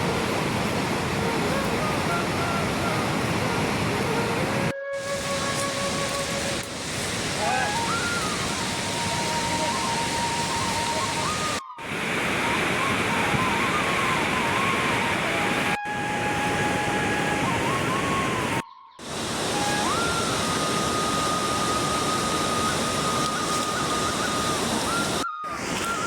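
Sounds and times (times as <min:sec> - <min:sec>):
flowing water rushing: 0:00.0 - 0:26.0
melody of long held notes: 0:00.0 - 0:26.0.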